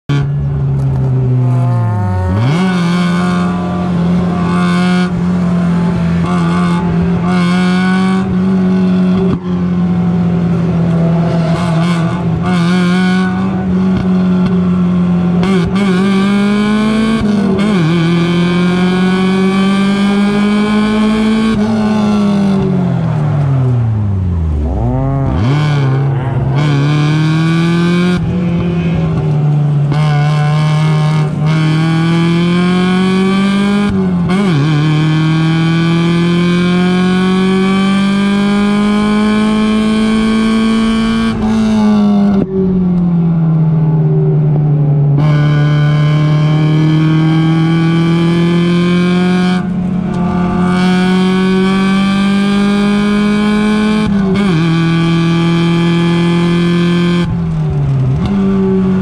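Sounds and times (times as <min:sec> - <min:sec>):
race car engine revving: 0:00.1 - 0:59.0.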